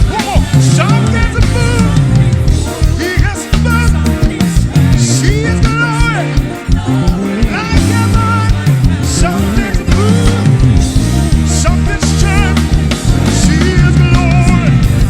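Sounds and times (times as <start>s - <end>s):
bass: 0.0s - 15.0s
drums: 0.0s - 15.0s
worship band playing: 0.0s - 15.0s.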